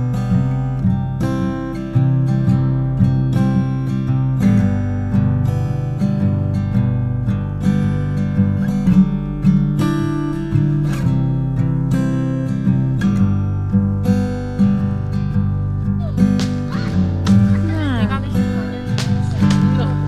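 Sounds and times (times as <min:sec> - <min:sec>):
strummed acoustic guitar music: 0:00.0 - 0:20.0.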